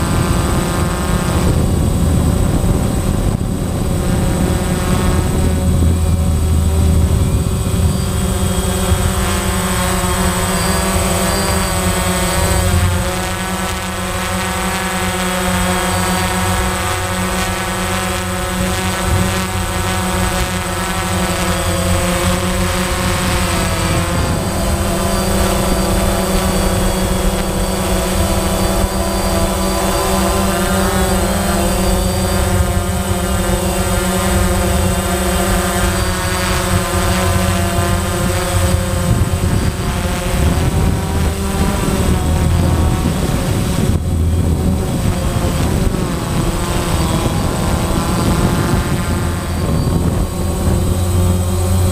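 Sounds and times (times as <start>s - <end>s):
drone motors whining: 0.0s - 51.9s
propeller wash rumble: 0.0s - 51.9s.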